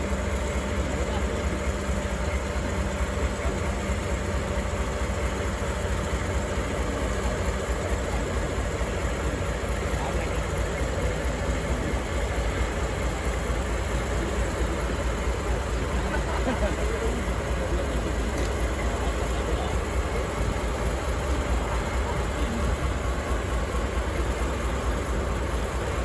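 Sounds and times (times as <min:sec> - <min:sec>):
diesel locomotive engine idling: 0:00.0 - 0:26.0.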